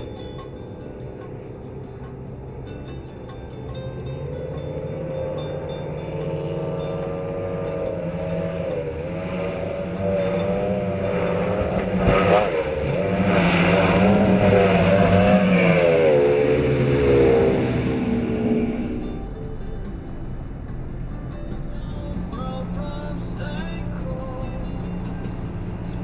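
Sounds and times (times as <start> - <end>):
boat engines running at speed: 0.0 - 26.0.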